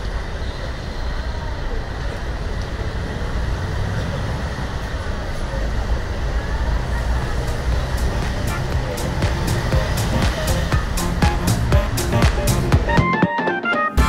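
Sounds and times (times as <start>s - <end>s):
traffic rumble: 0.0s - 13.0s
crowd hum: 0.0s - 13.2s.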